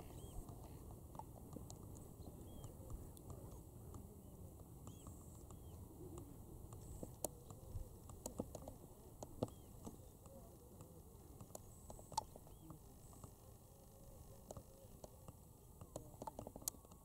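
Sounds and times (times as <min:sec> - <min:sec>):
bird calls: 0:00.0 - 0:17.0
sharp clicks: 0:00.1 - 0:13.4, 0:14.4 - 0:17.0.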